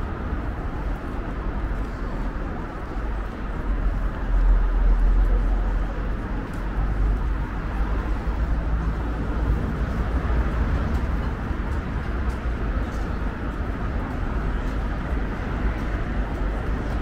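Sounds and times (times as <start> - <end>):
constant outdoor hum: 0.0 - 17.0
low rumble of traffic: 0.0 - 17.0.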